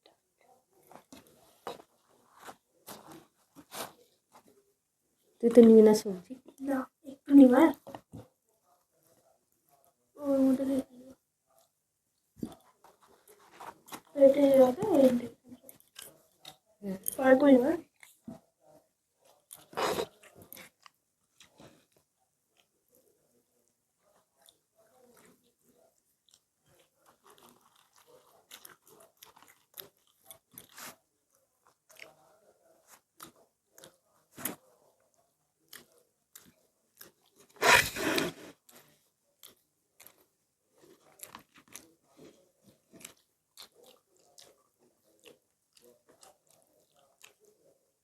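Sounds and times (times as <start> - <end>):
people chewing and crunching: 0.0 - 4.6, 11.5 - 48.0.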